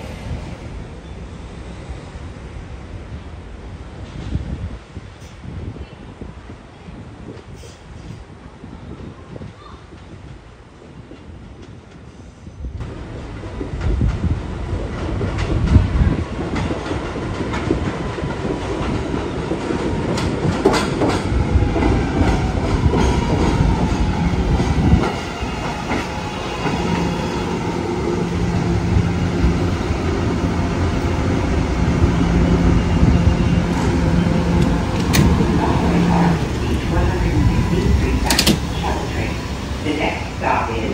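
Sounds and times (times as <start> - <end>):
train rumble: 0.0 - 40.9
subway train wheels clacking: 7.3 - 40.9.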